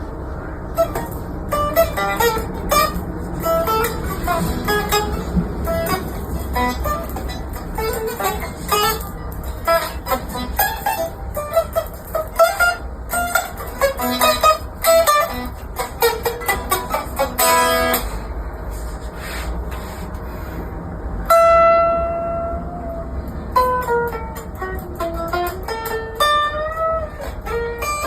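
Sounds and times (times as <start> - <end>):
guitar picked notes: 0.0 - 28.0
guitar chord: 0.3 - 18.4, 21.2 - 28.0.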